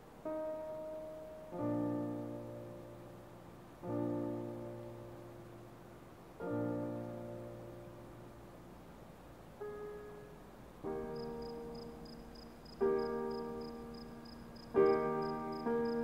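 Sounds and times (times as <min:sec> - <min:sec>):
slow piano chords ringing: 0:00.0 - 0:16.0.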